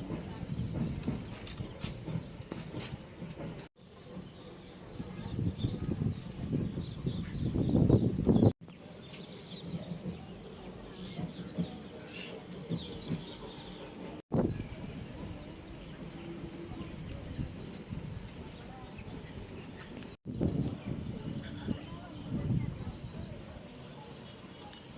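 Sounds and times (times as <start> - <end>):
insects droning: 0.0 - 24.9.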